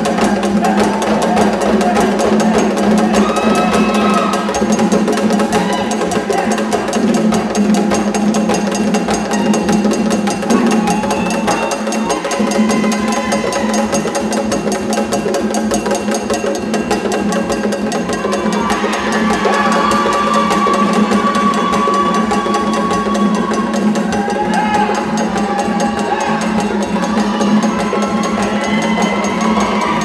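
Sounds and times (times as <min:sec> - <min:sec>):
clicking stick pattern: 0:00.0 - 0:30.0
hand drums playing: 0:00.0 - 0:30.0.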